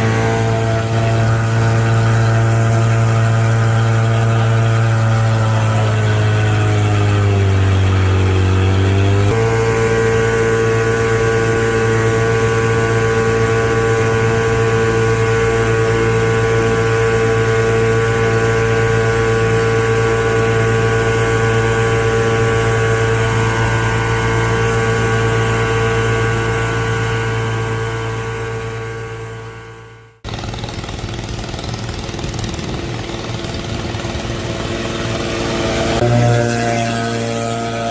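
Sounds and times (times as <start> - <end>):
small boat engine running: 0.0 - 37.9.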